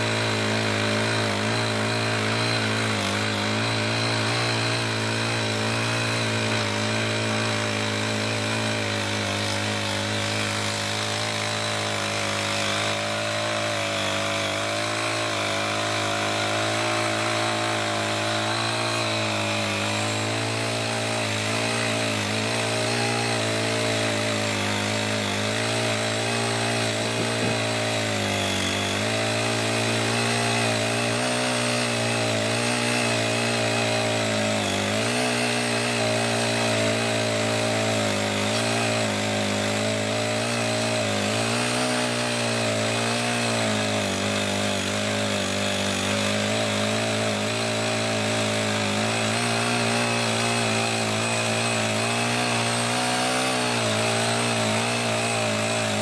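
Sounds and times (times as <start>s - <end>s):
small engine running steadily: 0.0s - 56.0s.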